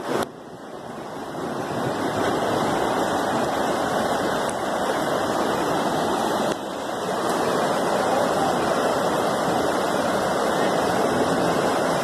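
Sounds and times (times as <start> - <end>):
car driving through water: 0.0 - 12.0
floodwater rushing: 0.0 - 12.0.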